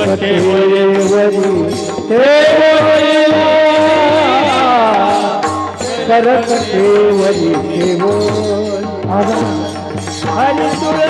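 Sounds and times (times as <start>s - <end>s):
drum beat: 0.0s - 11.0s
hand cymbals: 0.0s - 11.0s
person singing devotional song: 0.0s - 11.0s.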